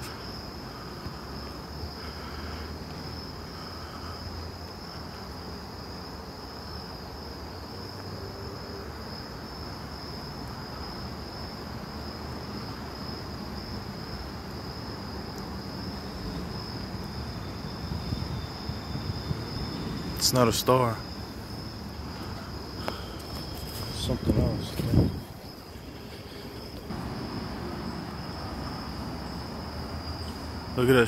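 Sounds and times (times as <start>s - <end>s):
crickets trilling: 0.0s - 31.0s
lower insect trill: 0.0s - 31.0s.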